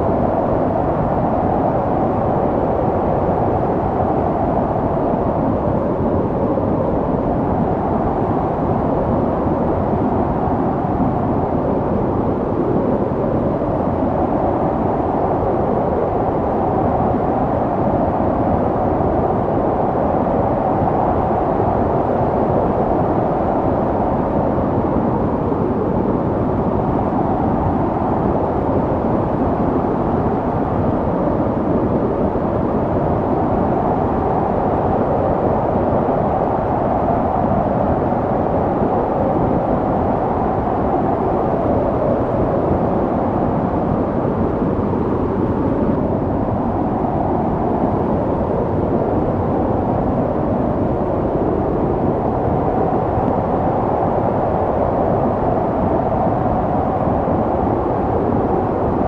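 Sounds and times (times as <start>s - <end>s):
snow storm wind blowing: 0.0s - 59.0s.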